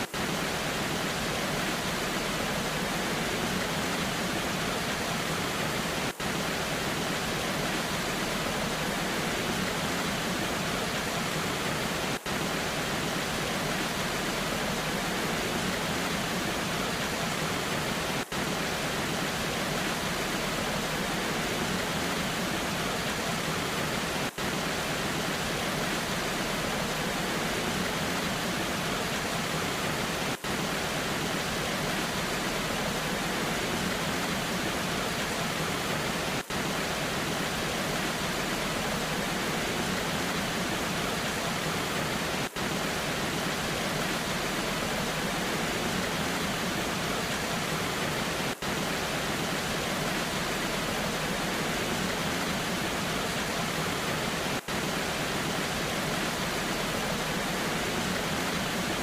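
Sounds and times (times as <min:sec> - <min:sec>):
rain: 0:00.0 - 0:59.0
waterfall rushing: 0:00.0 - 0:59.0.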